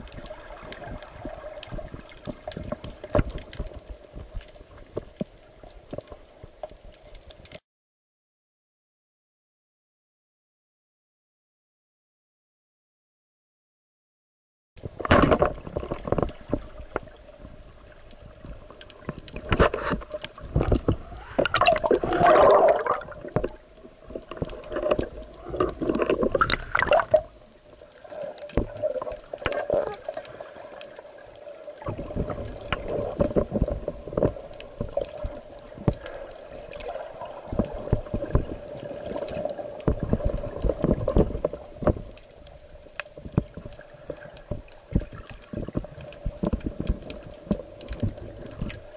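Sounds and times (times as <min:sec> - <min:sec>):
water sloshing and gurgling: 0:00.0 - 0:07.6, 0:14.8 - 0:48.9.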